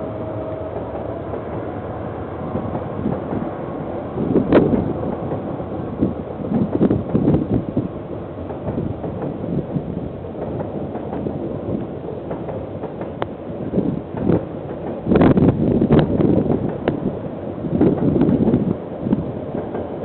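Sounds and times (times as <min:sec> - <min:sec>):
train wagons rumbling: 0:00.0 - 0:20.0.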